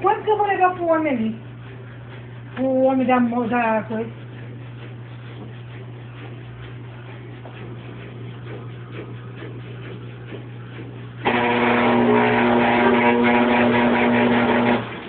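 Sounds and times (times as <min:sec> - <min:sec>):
old machine motor droning: 0:00.0 - 0:15.0.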